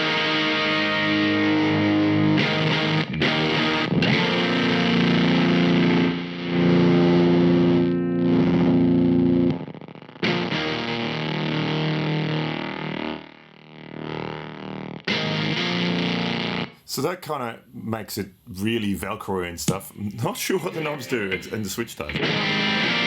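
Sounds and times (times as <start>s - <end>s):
distorted electric guitar chords: 0.0s - 16.8s, 20.6s - 23.0s.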